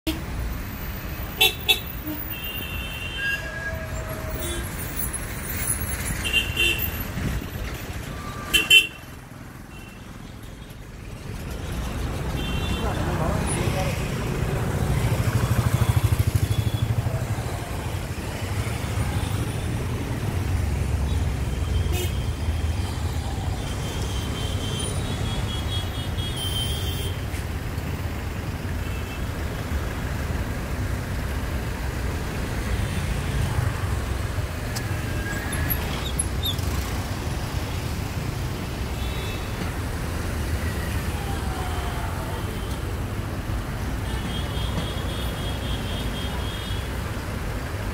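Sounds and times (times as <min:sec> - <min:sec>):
car and motorcycle engines rumbling: 0:00.0 - 0:47.9.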